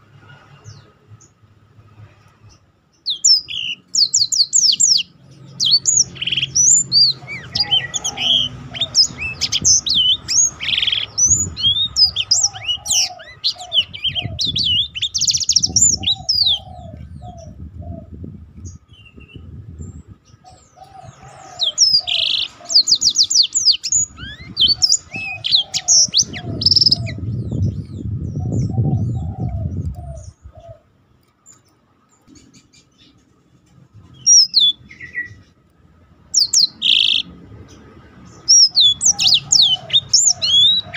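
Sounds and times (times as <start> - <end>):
canary singing trilled notes: 3.0 - 17.8, 18.6 - 30.6, 34.0 - 35.6, 36.2 - 40.9.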